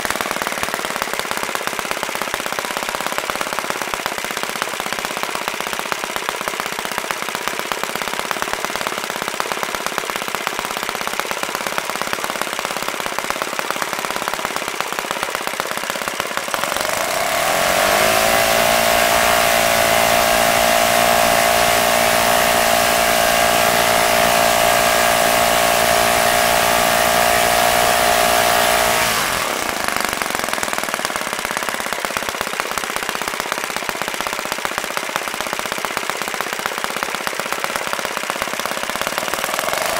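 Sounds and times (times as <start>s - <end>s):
model engine popping exhaust: 0.0s - 39.9s.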